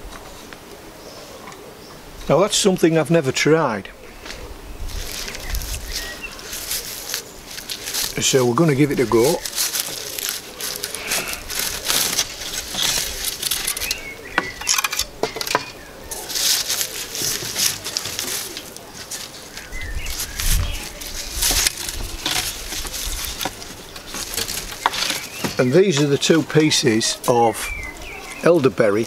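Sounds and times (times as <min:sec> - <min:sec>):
sticks rustling and scraping: 0:04.2 - 0:29.0.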